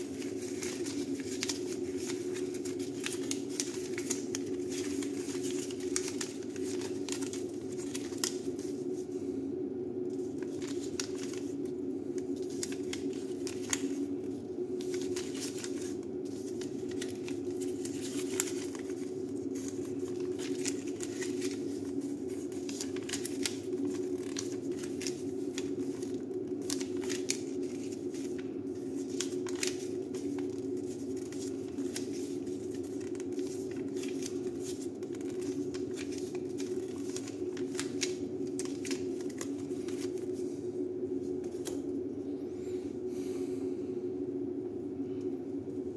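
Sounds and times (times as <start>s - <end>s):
paper rustling and crinkling: 0.0s - 9.2s, 10.1s - 40.6s, 41.2s - 41.9s
steady low hum: 0.0s - 45.9s.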